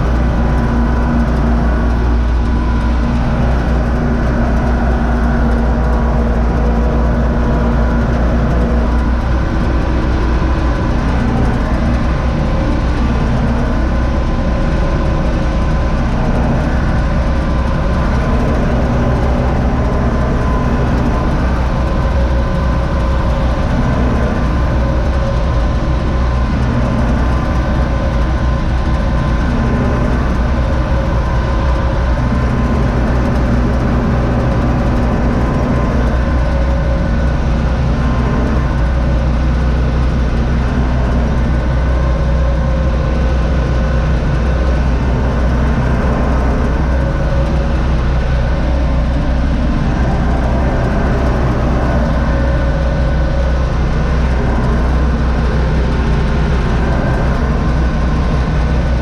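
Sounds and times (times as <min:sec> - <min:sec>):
corn picker machinery running: 0:00.0 - 0:59.0
tractor diesel engine under load: 0:00.0 - 0:59.0.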